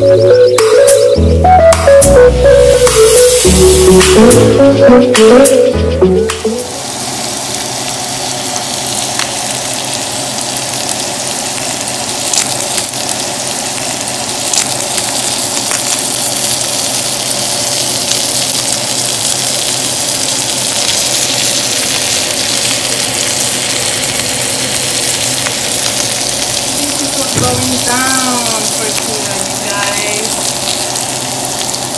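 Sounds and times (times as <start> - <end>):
steak and onions sizzling in pan: 2.4 - 5.1, 6.5 - 31.9.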